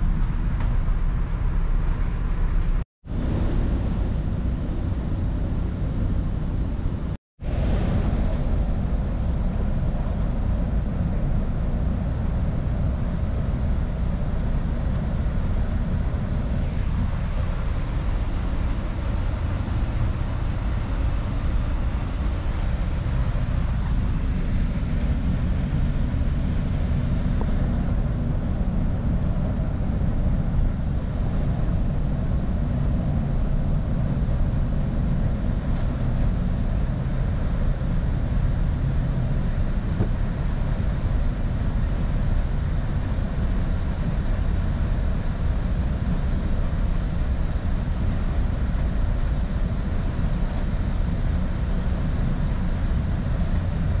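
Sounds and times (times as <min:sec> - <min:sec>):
train rumbling and rushing: 0:00.0 - 0:54.0.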